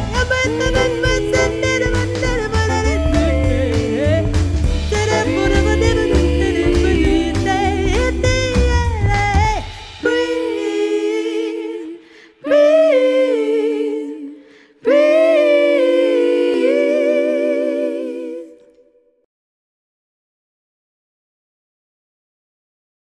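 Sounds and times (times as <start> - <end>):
a cappella vocal harmonies: 0.0 - 19.2.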